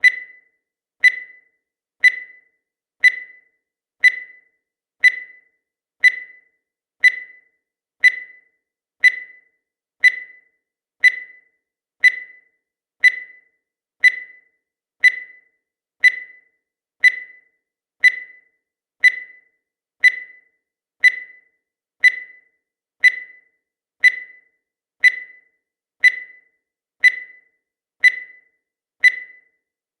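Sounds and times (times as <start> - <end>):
short high-pitched beeps: 0.0 - 29.7.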